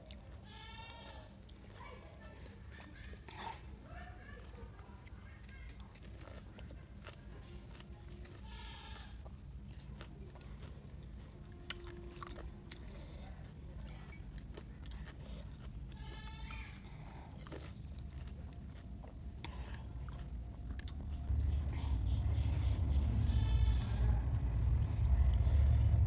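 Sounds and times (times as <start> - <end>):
steady low hum: 3.6 - 26.0.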